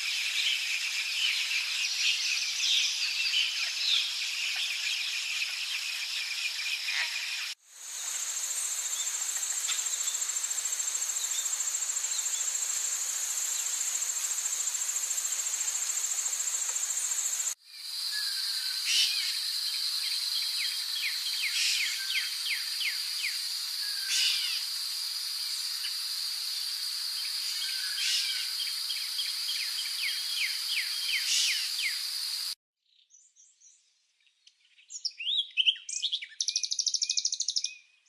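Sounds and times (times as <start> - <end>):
insects buzzing and trilling: 0.0 - 32.6.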